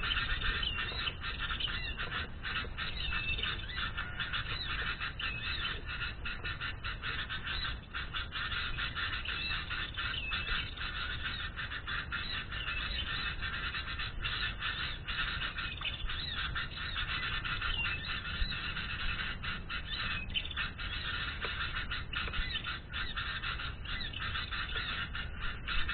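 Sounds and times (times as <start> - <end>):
small birds chattering: 0.0 - 25.9.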